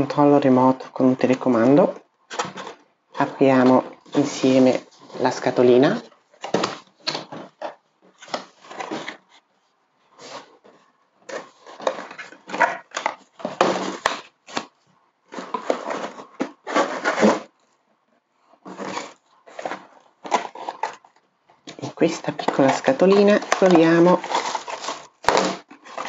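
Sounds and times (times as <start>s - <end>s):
cardboard and foam rustling: 0.7s - 17.7s, 18.6s - 26.0s.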